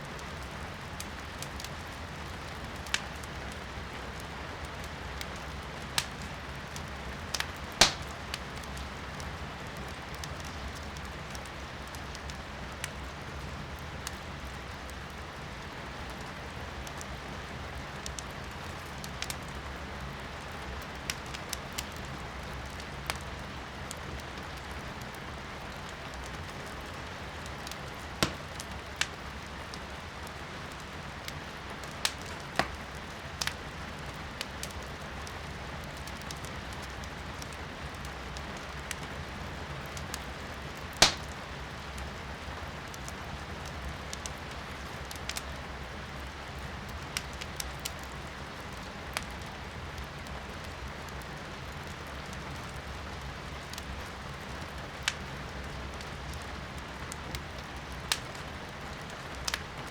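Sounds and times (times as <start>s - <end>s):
rain hiss from indoors: 0.0s - 59.9s
firewood crackling and popping: 0.1s - 59.9s.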